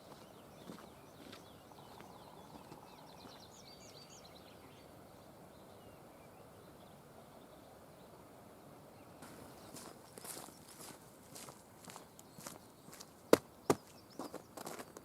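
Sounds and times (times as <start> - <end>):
songbird chirps: 0.0 - 15.0.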